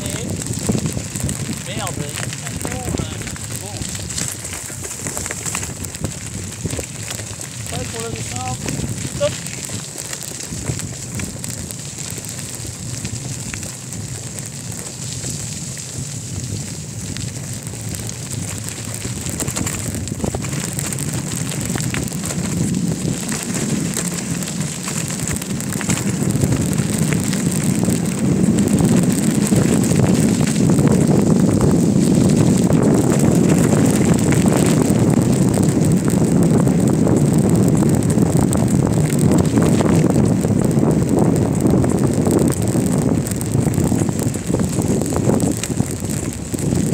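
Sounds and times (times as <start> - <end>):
tyres rolling over dirt path: 0.0 - 46.9
wind rushing over microphone: 0.0 - 46.9
bicycle knocks and rattles: 4.0 - 46.9.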